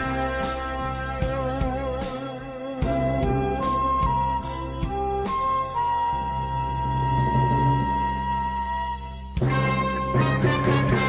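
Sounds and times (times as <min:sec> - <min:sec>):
orchestral music with held tones: 0:00.0 - 0:11.0.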